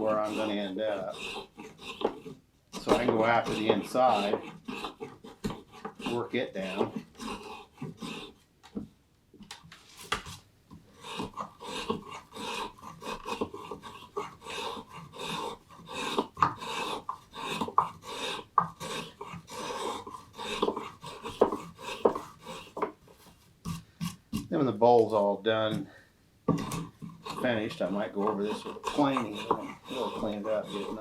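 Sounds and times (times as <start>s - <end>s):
hand tool shaving wood: 0.0s - 8.4s, 9.9s - 25.9s, 26.5s - 31.0s.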